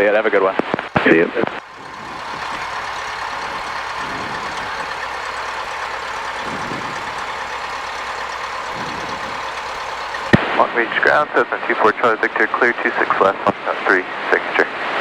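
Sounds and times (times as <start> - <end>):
airplane engine drone in cabin: 0.6 - 15.0.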